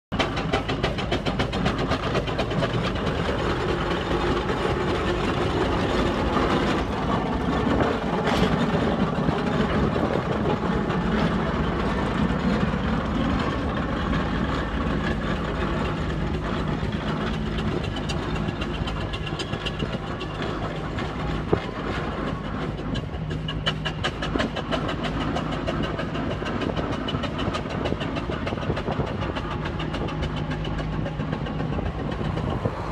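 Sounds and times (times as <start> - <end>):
steam engine mechanical clatter: 0.1 - 32.9.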